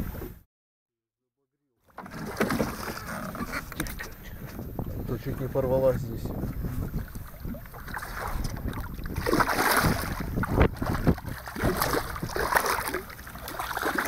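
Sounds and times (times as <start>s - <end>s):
water splashing against boat: 1.9s - 14.0s
wind on microphone: 2.7s - 14.0s.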